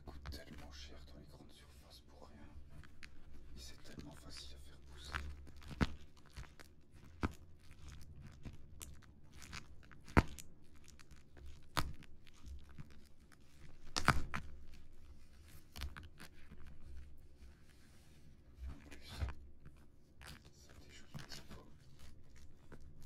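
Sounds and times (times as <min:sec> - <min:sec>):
plastic film crinkling: 0:02.6 - 0:23.0.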